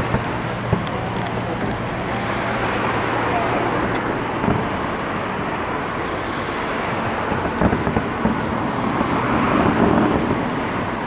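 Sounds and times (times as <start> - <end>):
fireworks booming: 0.0 - 11.0
train rumbling past: 0.0 - 11.0.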